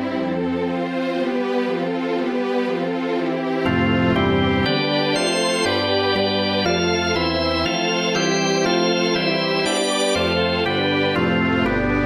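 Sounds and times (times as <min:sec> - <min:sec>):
background music of held chords: 0:00.0 - 0:12.0.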